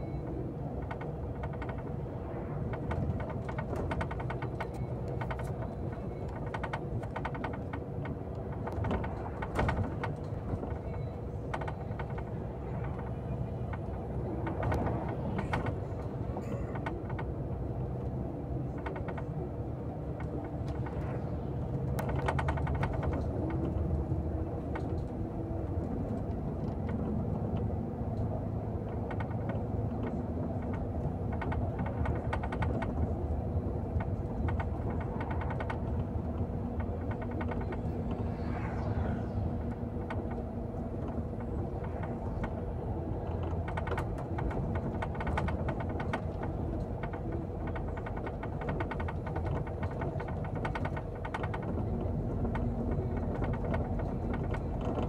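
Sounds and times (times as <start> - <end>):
rattles and clicks: 0.7 - 19.4, 20.0 - 55.0.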